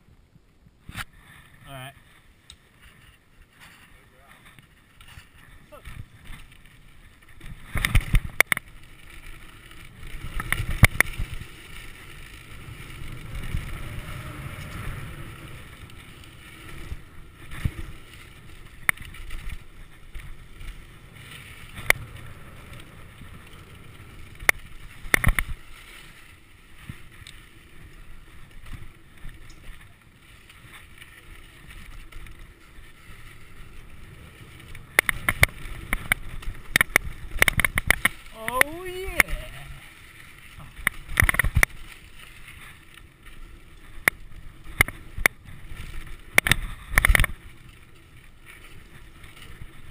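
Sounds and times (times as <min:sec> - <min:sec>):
bike tyres rushing on dirt: 0:00.0 - 0:49.9
bike knocking and rattling: 0:00.8 - 0:49.9.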